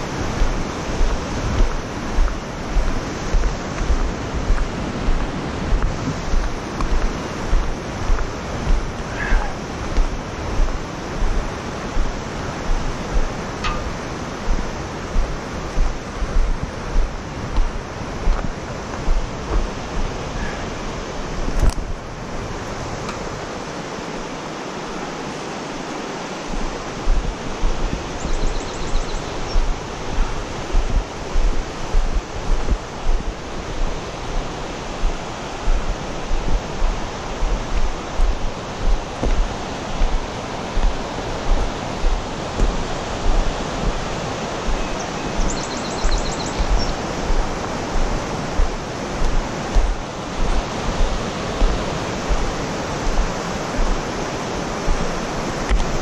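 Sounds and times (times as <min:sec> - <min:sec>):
creek rapids rushing: 0:00.0 - 0:56.0.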